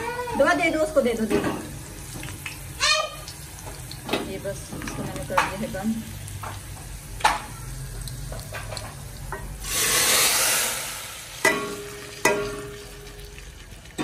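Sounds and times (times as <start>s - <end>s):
hot oil sizzling in pan: 0.0s - 14.0s
loud sizzle of oil poured in: 0.8s - 14.0s.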